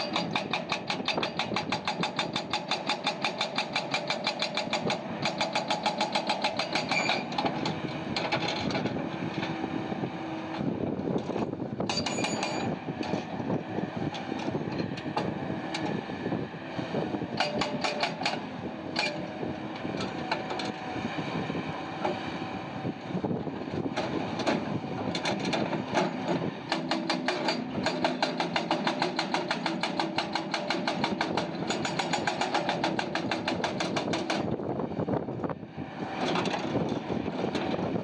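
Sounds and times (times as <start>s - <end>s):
diesel machinery running: 0.0s - 38.0s.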